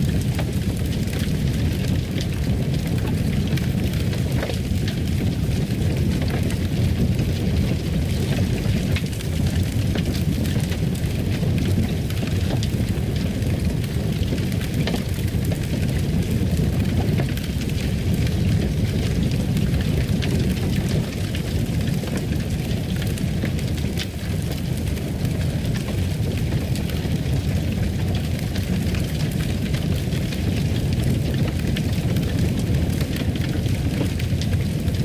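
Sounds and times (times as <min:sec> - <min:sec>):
fireplace fire burning: 0:00.0 - 0:35.0.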